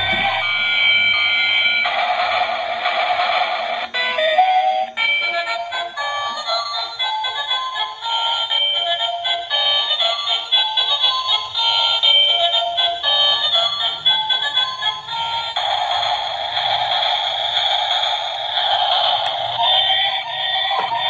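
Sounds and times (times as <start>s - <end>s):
tinny electronic toy melody: 0.0s - 3.2s, 3.8s - 21.0s.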